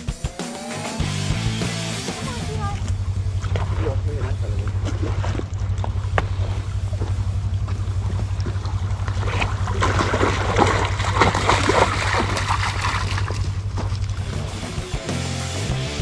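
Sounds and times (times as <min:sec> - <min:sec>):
vehicle engine droning: 0:00.0 - 0:16.0
water splashing and rushing: 0:00.1 - 0:15.0.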